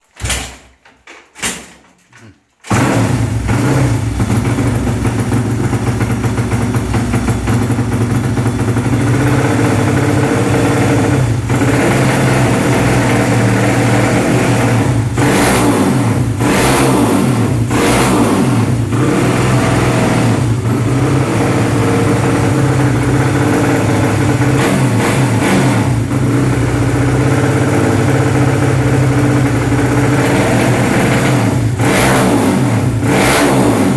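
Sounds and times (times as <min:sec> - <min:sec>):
motorcycle engine idling fast: 0:02.7 - 0:33.9.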